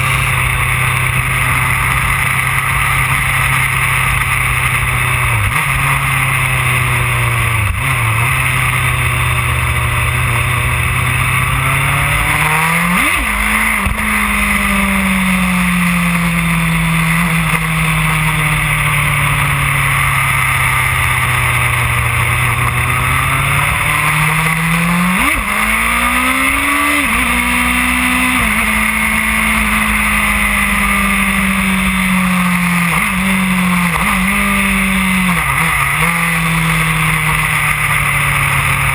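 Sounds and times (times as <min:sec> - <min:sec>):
motorcycle engine at road speed: 0:00.0 - 0:38.9.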